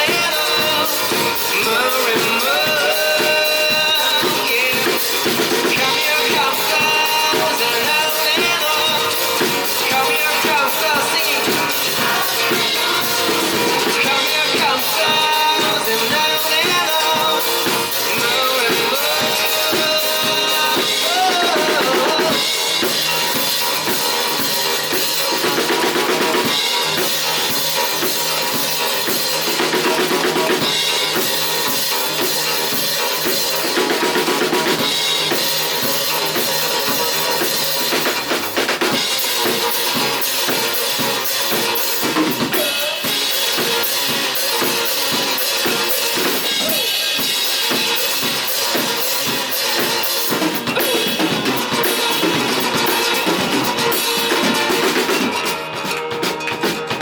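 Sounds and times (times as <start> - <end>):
kick and snare drum beat: 0.0 - 57.0
rock band playing live: 0.0 - 57.0.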